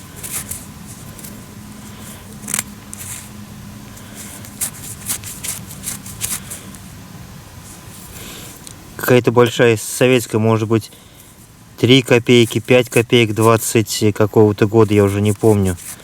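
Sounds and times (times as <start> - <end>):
hands scratching and rustling soil: 0.0 - 6.9, 7.6 - 9.1, 10.0 - 16.0.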